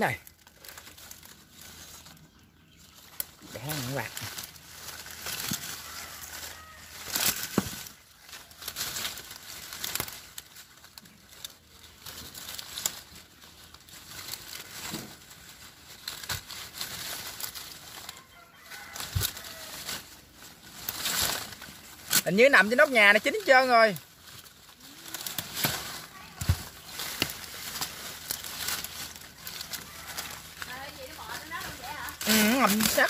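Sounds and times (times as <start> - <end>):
leaves and twigs rustling: 0.0 - 33.0.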